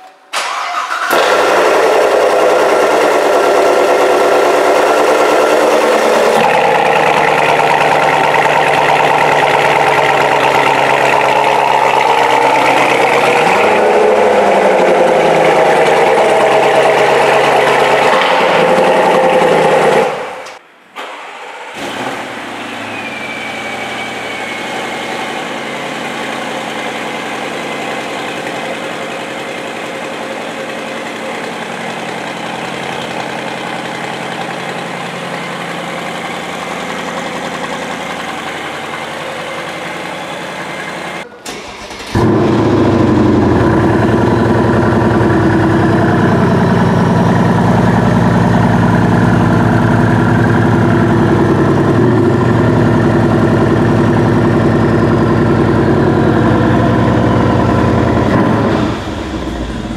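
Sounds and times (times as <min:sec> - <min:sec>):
car engine cutting off: 0:00.3 - 0:59.9
deep loud car engine idle: 0:01.2 - 0:20.0, 0:24.3 - 0:41.4, 0:42.0 - 0:59.9
car idling quietly: 0:05.2 - 0:18.0, 0:24.2 - 0:59.9.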